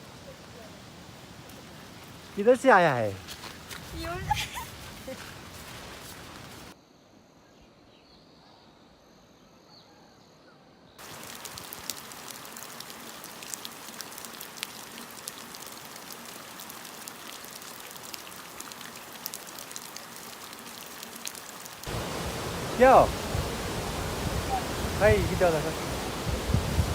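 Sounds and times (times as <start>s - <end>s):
rain drops on hard surface: 0.0s - 6.8s, 11.0s - 26.9s.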